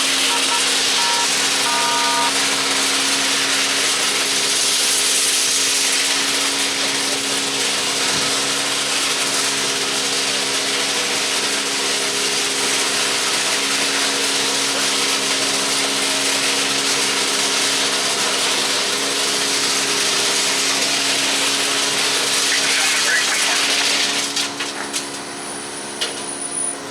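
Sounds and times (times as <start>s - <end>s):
machinery hum with hiss: 0.0s - 26.9s.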